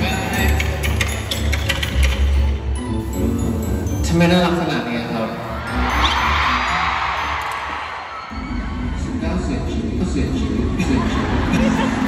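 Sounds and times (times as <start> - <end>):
crowd noise: 0.0 - 12.0.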